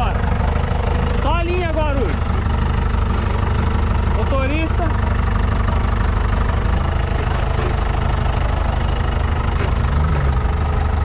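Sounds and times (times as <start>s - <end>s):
jeep engine running at low revs: 0.0s - 11.0s.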